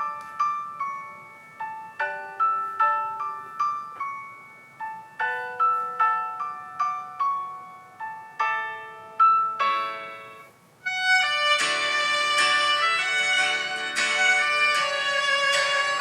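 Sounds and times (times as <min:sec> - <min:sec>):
bell-like instrumental music: 0:00.0 - 0:16.0.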